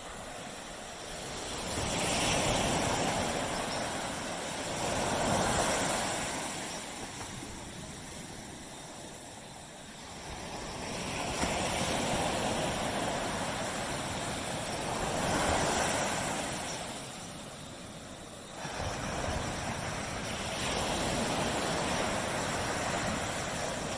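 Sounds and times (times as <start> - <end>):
waves breaking on a beach: 0.0 - 23.9.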